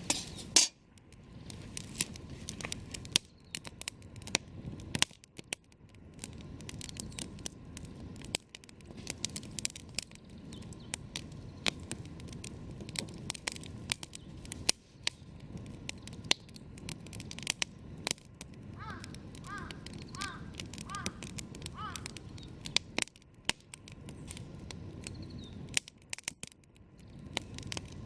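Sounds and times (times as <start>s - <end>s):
campfire crackling: 0.0s - 28.0s
low rush of burning fire: 0.0s - 28.0s.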